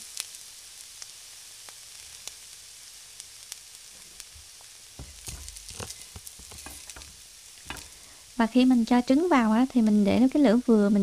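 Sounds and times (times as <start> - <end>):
egg sizzling in hot oil: 0.0 - 11.0.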